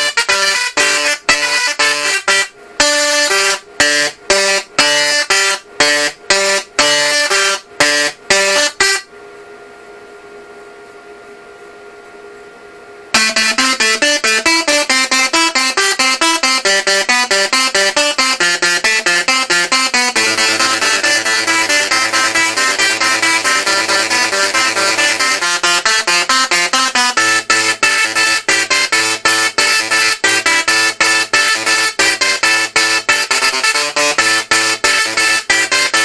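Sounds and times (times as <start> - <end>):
tesla coil playing buzzy notes: 0.0 - 9.3, 13.1 - 36.0
tesla coil steady tone: 0.0 - 10.5, 12.3 - 36.0.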